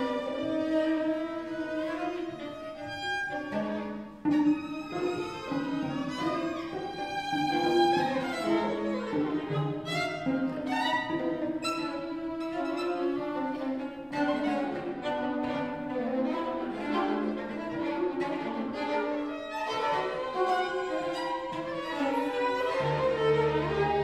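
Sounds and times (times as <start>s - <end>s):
string quartet playing: 0.0s - 24.0s.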